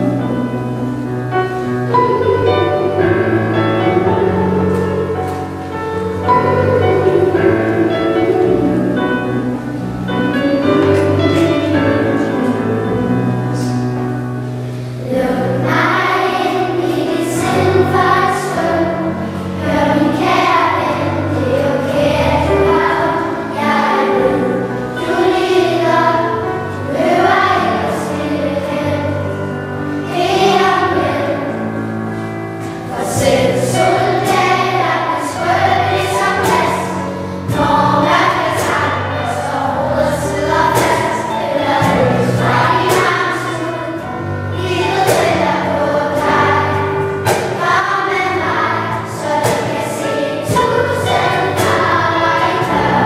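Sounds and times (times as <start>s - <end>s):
children's choir singing: 0.0s - 53.0s
instrumental accompaniment: 0.0s - 53.0s.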